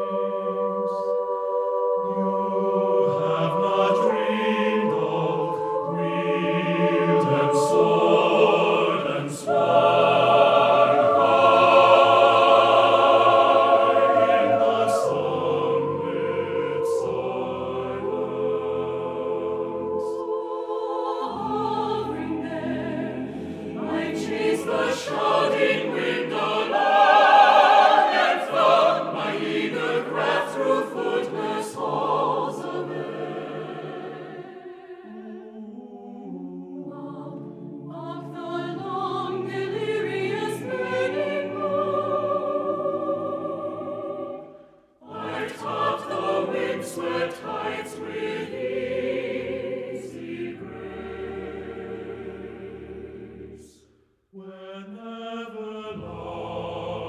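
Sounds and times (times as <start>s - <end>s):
choir singing sustained notes: 0.0s - 57.0s.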